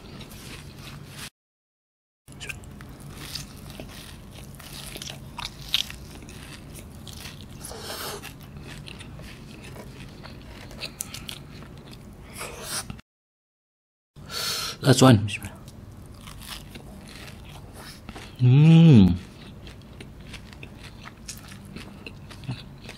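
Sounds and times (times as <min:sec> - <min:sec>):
chewing and crunching pastry: 0:00.0 - 0:01.3, 0:02.3 - 0:12.4, 0:15.4 - 0:22.9.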